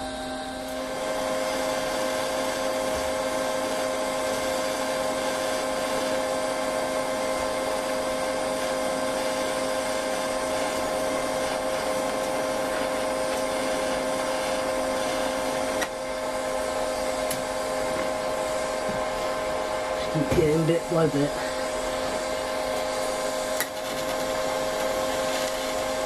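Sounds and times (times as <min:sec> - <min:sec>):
welding arc hissing buzz: 0:00.0 - 0:26.0.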